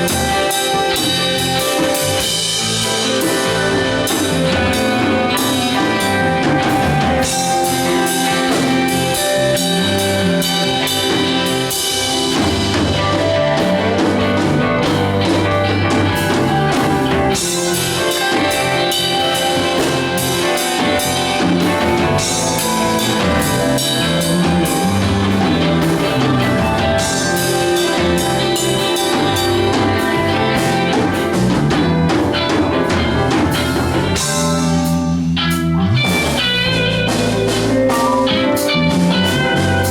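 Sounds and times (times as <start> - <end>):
bass line: 0.0 - 39.9
drum kit: 0.0 - 39.9
guitar: 0.0 - 39.9.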